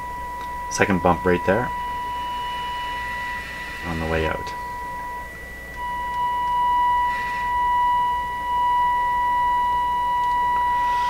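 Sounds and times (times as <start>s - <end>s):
distorted test tone from radio speaker: 0.0s - 11.0s.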